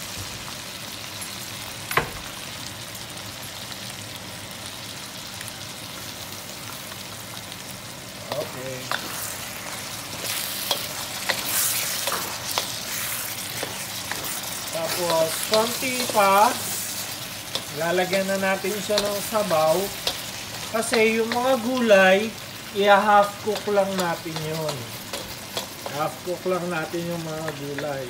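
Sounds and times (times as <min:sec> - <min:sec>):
food sizzling in a wok: 0:00.0 - 0:28.0.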